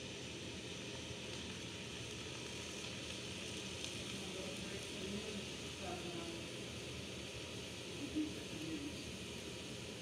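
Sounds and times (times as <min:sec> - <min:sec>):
ice sizzling in a hot pan: 0:00.0 - 0:10.0.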